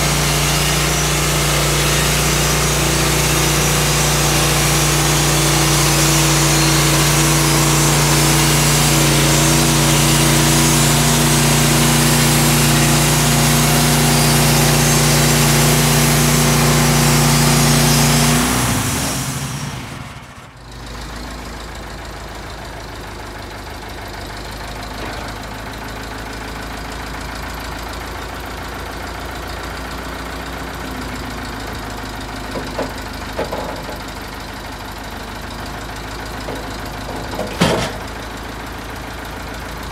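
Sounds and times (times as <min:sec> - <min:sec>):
sawmill petrol engine running: 0:00.0 - 0:39.9.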